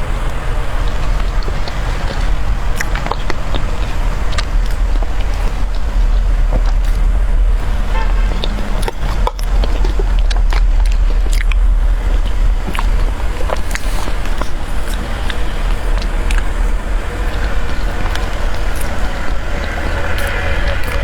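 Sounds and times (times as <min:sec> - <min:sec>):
steady low rumble: 0:00.0 - 0:21.0
wet chewing mouth clicks: 0:00.0 - 0:21.0.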